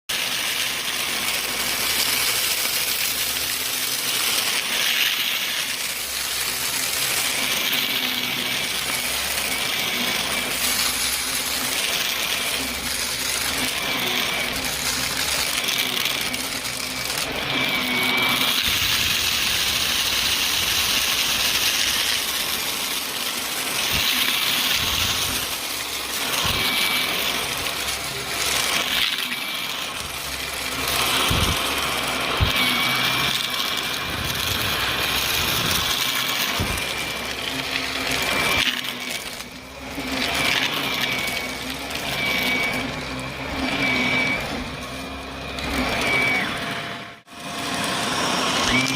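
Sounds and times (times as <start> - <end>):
vacuum cleaner running: 0.0 - 48.9
debris rattling in vacuum: 0.1 - 48.9.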